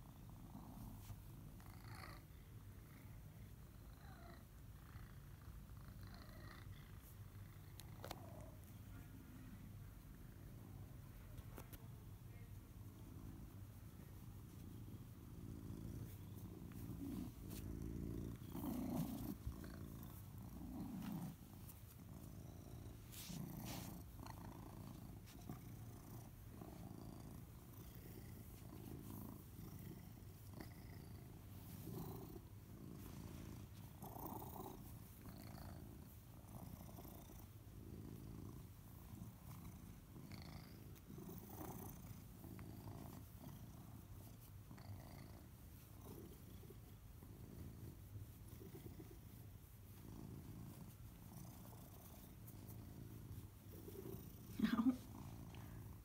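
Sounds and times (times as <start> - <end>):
cat purring: 0.0 - 56.0
faint rustles and clicks: 6.6 - 9.2, 9.9 - 56.0.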